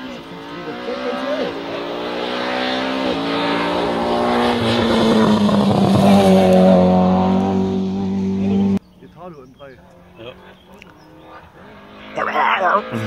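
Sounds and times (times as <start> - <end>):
rally car engine at high revs: 0.0 - 8.9, 9.9 - 13.0.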